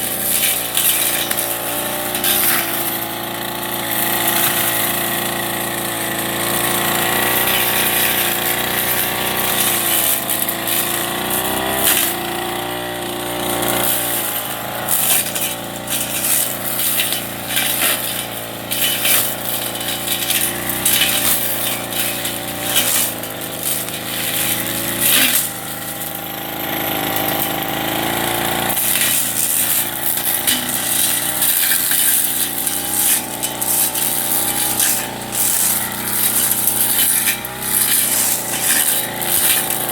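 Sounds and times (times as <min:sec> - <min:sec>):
blade striking weeds and debris: 0:00.0 - 0:39.9
brush cutter engine revving: 0:00.0 - 0:39.9.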